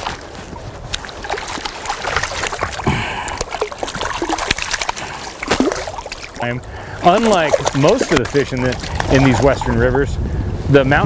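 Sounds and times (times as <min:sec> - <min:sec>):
fish splashing: 0:00.0 - 0:09.9
flowing water: 0:00.0 - 0:10.6.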